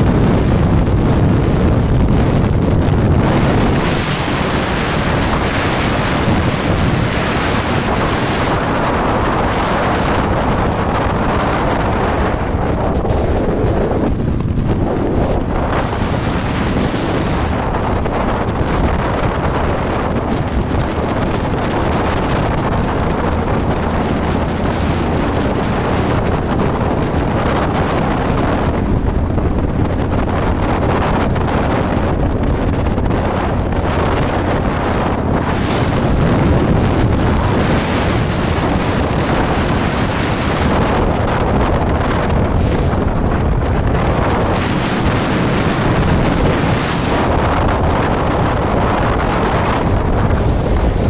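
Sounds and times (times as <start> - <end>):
road and engine rumble: 0.0 - 51.0
wind rushing over microphone: 0.0 - 51.0.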